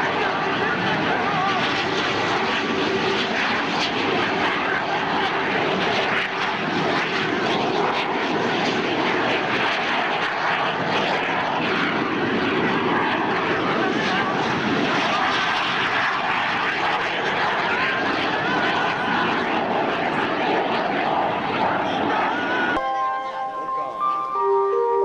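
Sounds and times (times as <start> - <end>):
jet engines rushing whine: 0.0 - 25.0.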